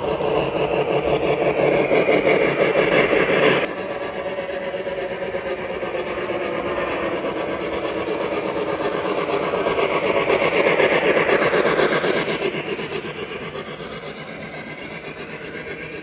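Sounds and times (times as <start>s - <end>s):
model train running on track: 0.0s - 16.0s.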